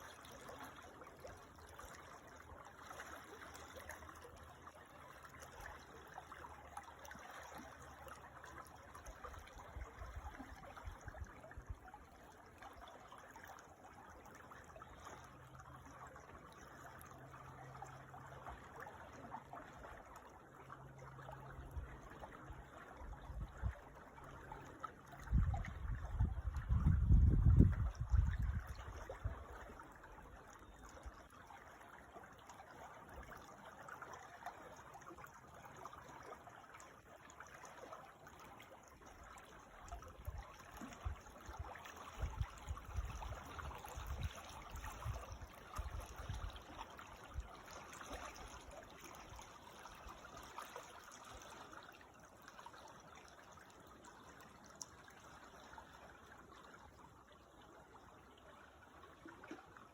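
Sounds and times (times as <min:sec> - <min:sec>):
creek trickling over stones: 0:00.0 - 0:59.9.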